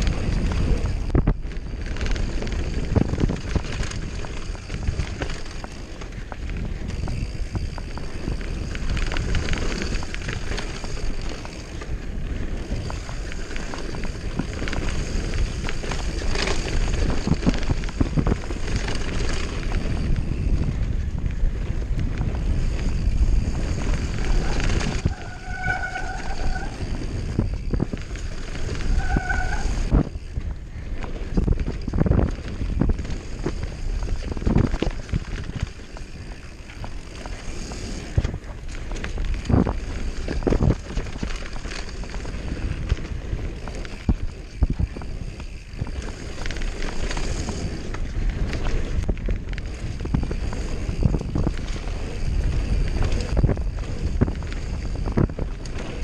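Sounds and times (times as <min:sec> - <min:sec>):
bike knocking and rattling: 0:00.0 - 0:56.0
bike tyres rolling over dirt: 0:00.0 - 0:56.0
wind on microphone: 0:00.0 - 0:56.0.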